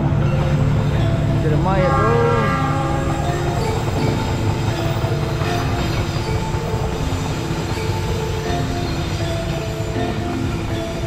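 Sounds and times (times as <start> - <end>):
train coaches rolling past: 0.0 - 11.0.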